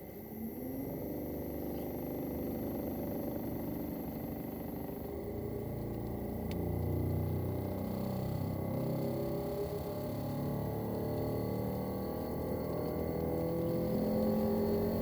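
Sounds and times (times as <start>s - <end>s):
compressor hum rising in pitch: 0.0s - 15.0s.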